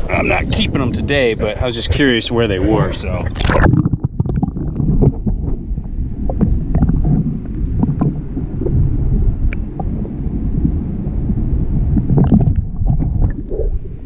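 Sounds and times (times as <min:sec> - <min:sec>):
water noise around boat: 0:00.0 - 0:14.0
wind rumble: 0:00.0 - 0:14.0.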